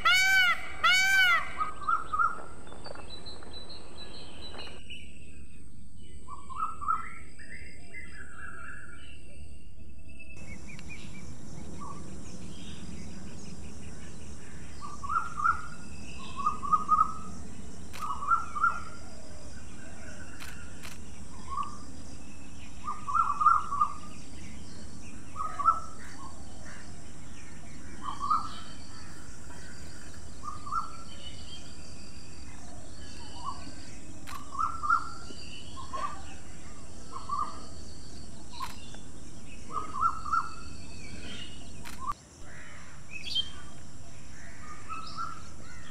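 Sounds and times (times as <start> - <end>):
steady high hiss: 0.0 - 4.8, 10.4 - 45.9
birds calling: 0.0 - 5.0, 10.4 - 45.9.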